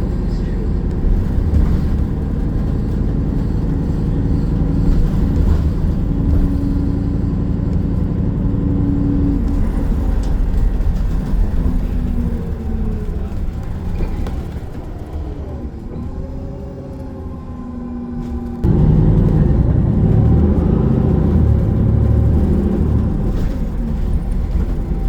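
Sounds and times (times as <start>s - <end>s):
bus engine drone: 0.0s - 25.0s
road rumble: 0.0s - 25.0s.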